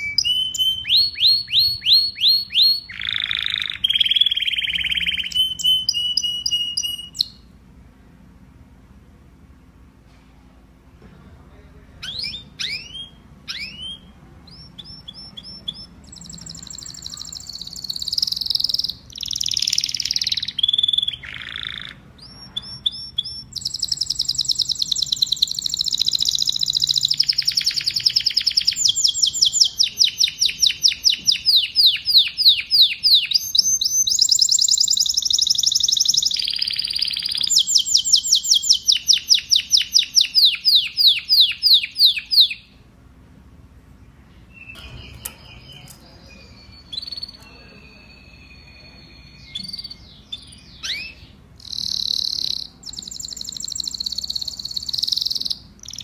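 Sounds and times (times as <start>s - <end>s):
canary singing trills: 0.0s - 7.6s, 12.0s - 42.9s, 44.4s - 56.0s.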